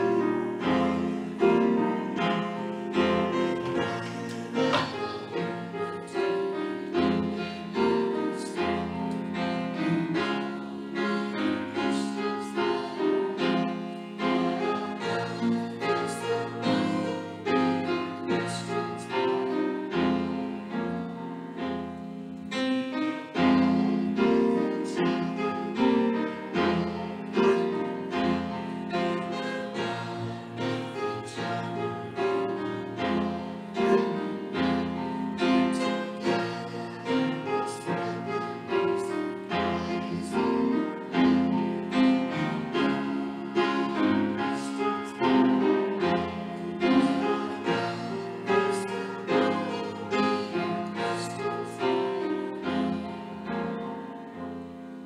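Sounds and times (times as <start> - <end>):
congregation singing: 0.0 - 55.0
piano playing a hymn: 0.0 - 55.0.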